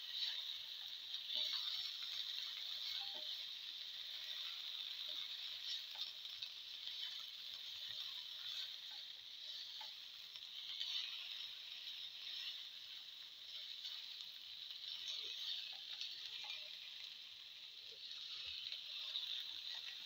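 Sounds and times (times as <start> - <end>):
spatula scraping frying pan: 0.0 - 17.0, 18.0 - 20.0
steady sizzle of frying: 0.0 - 20.0.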